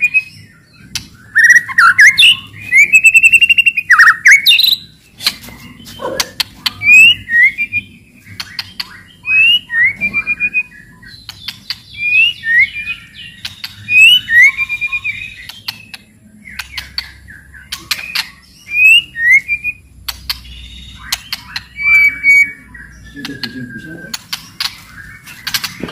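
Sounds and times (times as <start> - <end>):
bird whistling and clicking rattles: 0.9 - 10.6, 13.4 - 22.2, 23.2 - 25.9.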